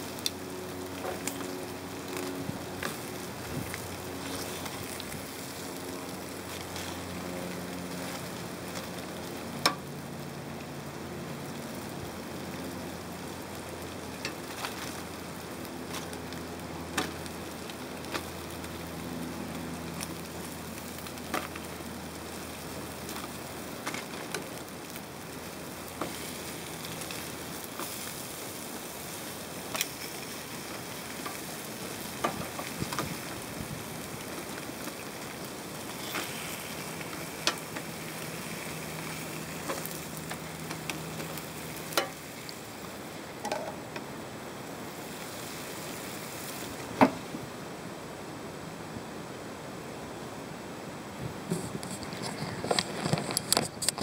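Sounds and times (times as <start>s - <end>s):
beef sizzling in a grill pan: 0.0s - 43.9s, 44.6s - 46.8s.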